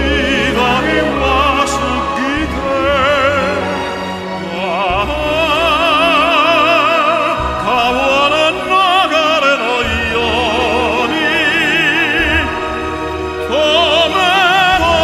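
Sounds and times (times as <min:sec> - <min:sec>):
instrumental accompaniment: 0:00.0 - 0:15.0
operatic tenor singing: 0:00.0 - 0:15.0.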